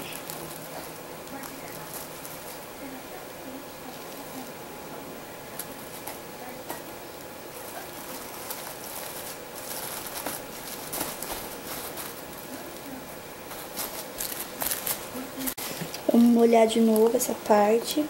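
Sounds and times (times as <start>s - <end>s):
plastic film crinkling: 0.0s - 3.0s, 5.4s - 17.4s
crackles: 0.0s - 18.0s
faint steady hiss: 0.0s - 18.0s.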